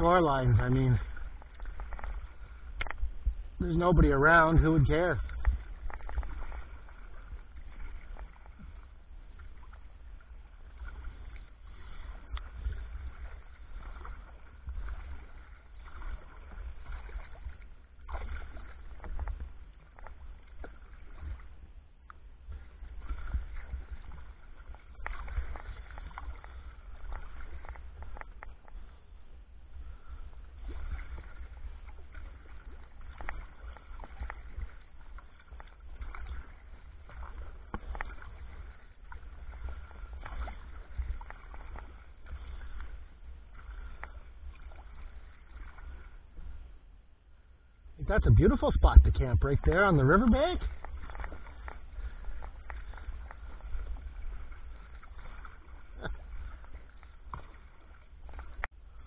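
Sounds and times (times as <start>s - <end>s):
steady low rumble: 0.0s - 35.3s, 35.9s - 59.0s
paddle splashing and dripping: 0.0s - 59.0s.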